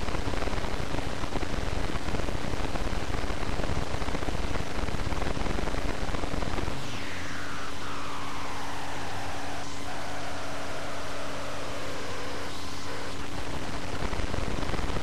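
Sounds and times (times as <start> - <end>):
faint steady hum: 0.0 - 15.0
static hiss: 0.0 - 15.0.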